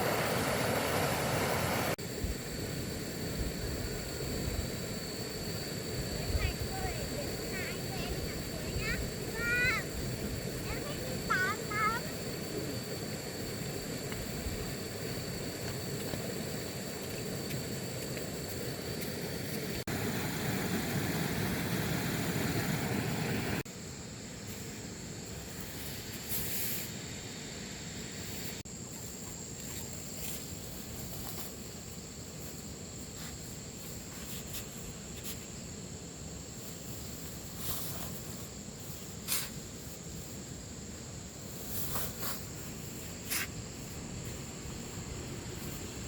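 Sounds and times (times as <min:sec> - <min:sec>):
high-pitched insect drone: 0:00.0 - 0:41.7.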